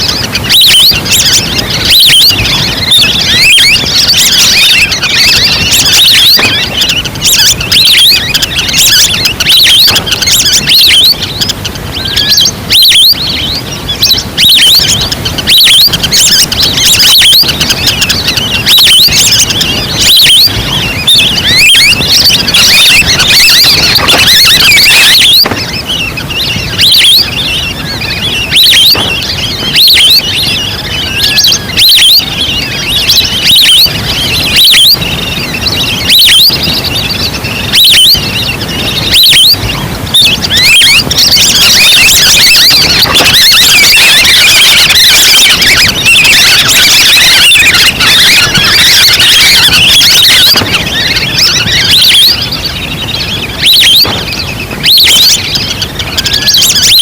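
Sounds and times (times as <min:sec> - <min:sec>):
duck lure whistled calls: 0:00.0 - 0:57.0
loud whistle: 0:00.0 - 0:57.0.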